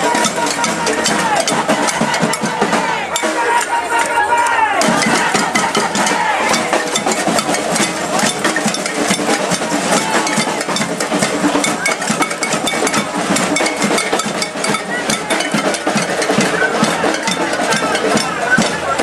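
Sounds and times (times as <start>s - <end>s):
crowd hubbub: 0.0s - 19.0s.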